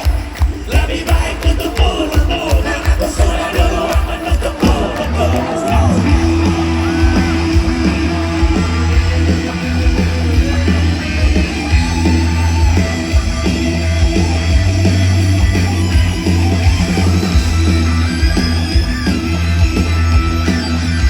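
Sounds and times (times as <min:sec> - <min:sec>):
bass: 0:00.0 - 0:21.0
drums: 0:00.0 - 0:21.0
electric guitar: 0:00.0 - 0:21.0.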